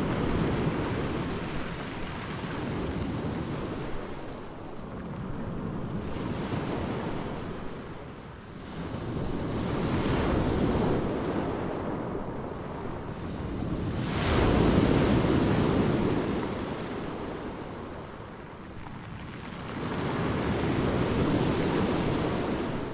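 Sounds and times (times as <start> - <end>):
waves washing onto shore: 0.0 - 22.9
wind rumbling on microphone: 0.0 - 22.9.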